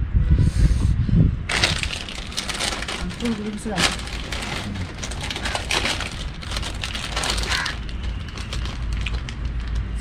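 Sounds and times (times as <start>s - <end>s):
plastic snack packet crinkling: 1.5s - 10.0s.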